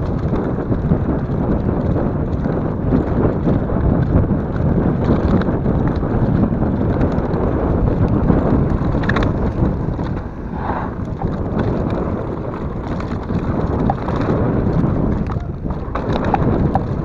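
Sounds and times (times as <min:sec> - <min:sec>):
bike rattling: 0:00.0 - 0:17.0
bike tyres rolling on dirt: 0:00.0 - 0:17.0
wind rushing over microphone: 0:00.0 - 0:17.0.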